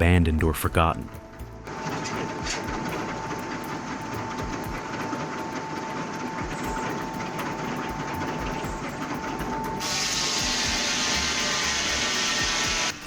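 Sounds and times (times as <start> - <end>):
sawmill machinery rattling: 1.3 - 13.0.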